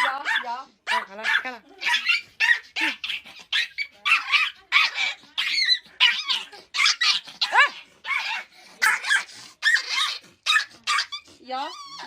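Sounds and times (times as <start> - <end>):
dog yelping: 0.0 - 12.0
small dog yapping: 0.0 - 12.0.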